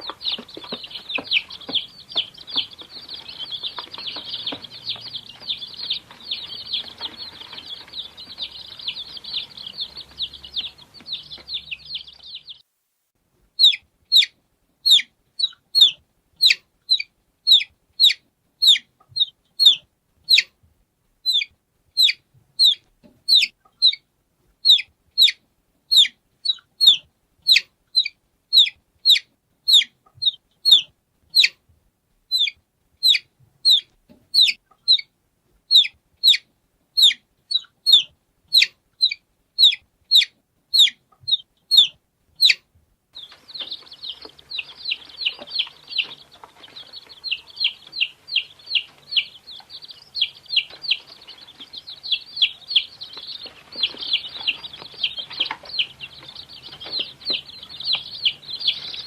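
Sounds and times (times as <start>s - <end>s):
baby chick peeping: 0.0s - 12.7s, 13.5s - 20.6s, 21.2s - 59.0s.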